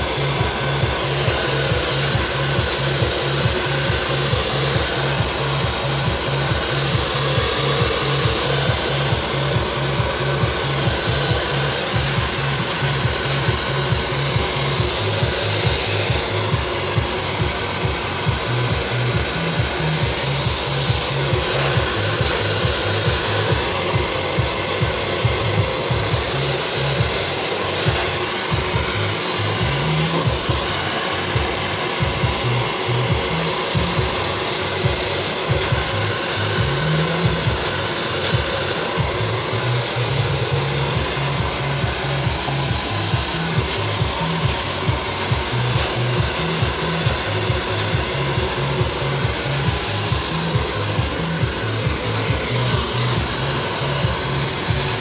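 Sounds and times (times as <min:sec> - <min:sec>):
background music with bass line: 0:00.0 - 0:55.0
hair being brushed: 0:00.0 - 0:55.0
hair dryer blowing: 0:00.0 - 0:55.0.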